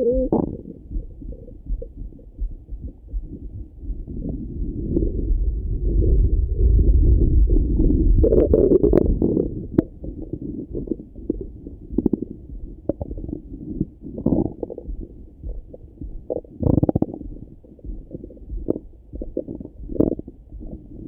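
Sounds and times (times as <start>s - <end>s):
stomach rumbling and gurgling: 0.0s - 21.0s.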